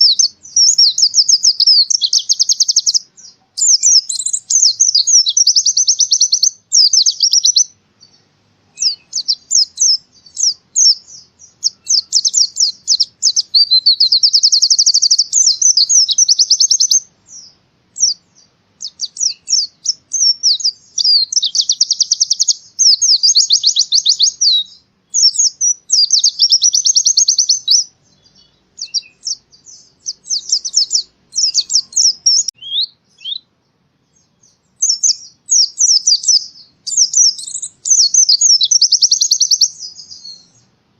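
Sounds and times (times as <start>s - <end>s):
bird twittering song: 0.0s - 40.8s.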